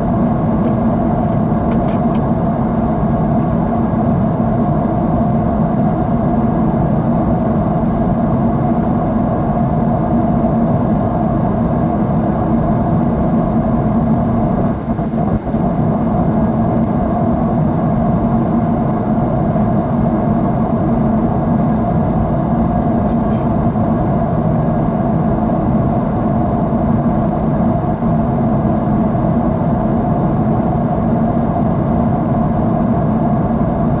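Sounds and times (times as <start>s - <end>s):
airliner cabin drone: 0.0s - 34.0s.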